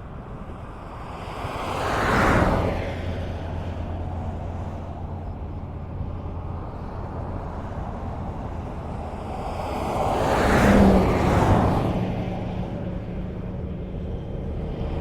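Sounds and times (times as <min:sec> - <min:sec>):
highway traffic rumble: 0:00.0 - 0:15.0.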